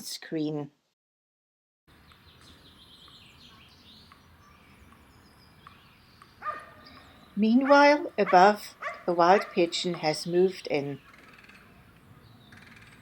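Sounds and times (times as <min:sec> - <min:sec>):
small birds chirping: 0:01.9 - 0:13.0.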